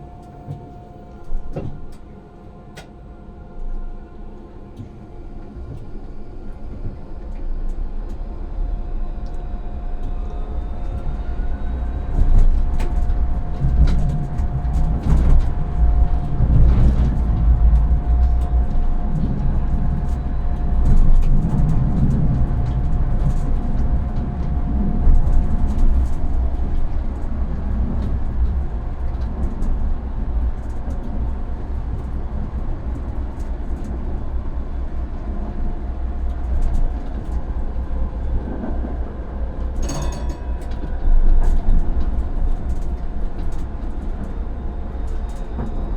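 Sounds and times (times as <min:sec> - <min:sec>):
tram rumbling along track: 0:00.0 - 0:45.9.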